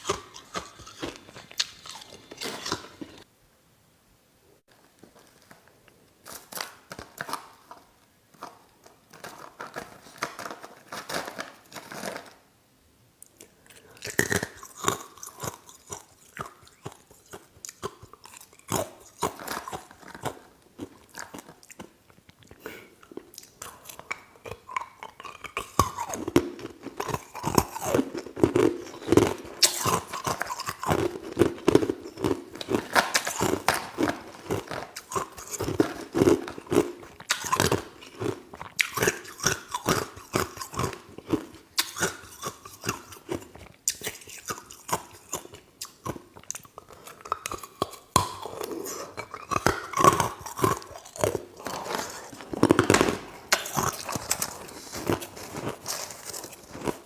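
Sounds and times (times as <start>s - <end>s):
ice being chewed crunching: 0.0s - 3.3s, 6.3s - 12.4s, 13.4s - 57.0s.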